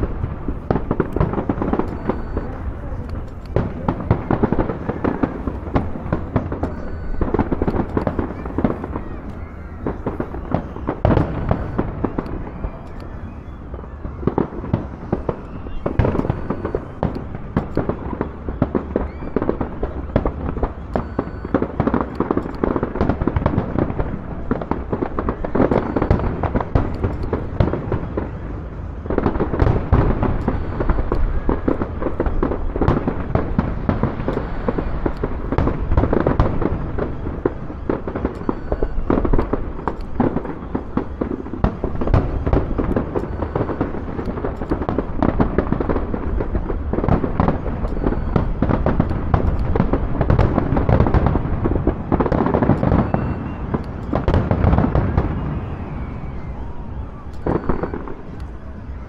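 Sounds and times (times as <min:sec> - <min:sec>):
firework barrage bangs and crackles: 0:00.0 - 0:59.0.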